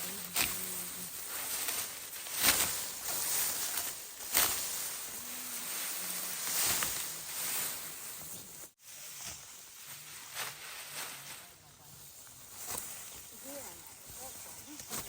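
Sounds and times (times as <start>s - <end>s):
dry rice stalks rustling: 0.0s - 15.0s.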